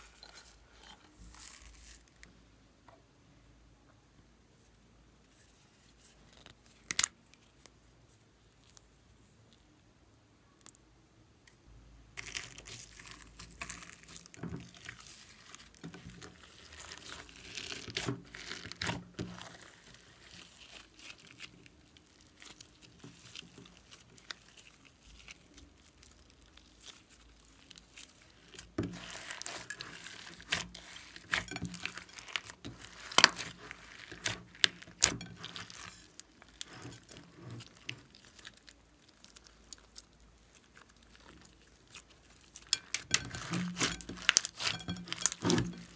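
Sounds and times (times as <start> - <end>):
slime crackling and crinkling: 0.0 - 2.4, 5.3 - 9.7, 12.1 - 45.9.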